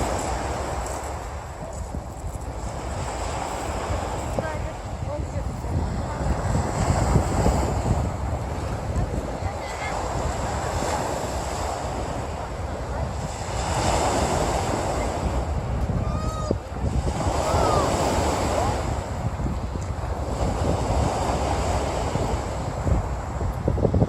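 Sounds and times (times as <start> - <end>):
sea waves washing onto beach: 0.0 - 24.0
wind rumbling on microphone: 0.0 - 24.0.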